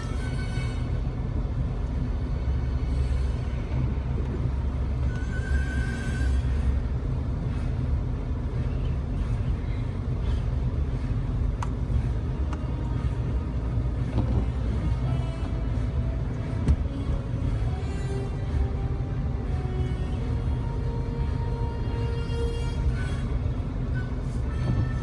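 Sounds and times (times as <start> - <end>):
vehicle rumbling through snow: 0.0 - 25.0.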